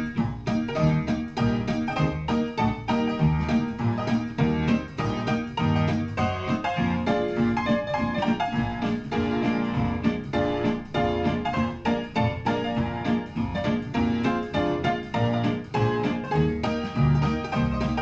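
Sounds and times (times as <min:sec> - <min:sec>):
solo piano singalong tune: 0:00.0 - 0:18.0.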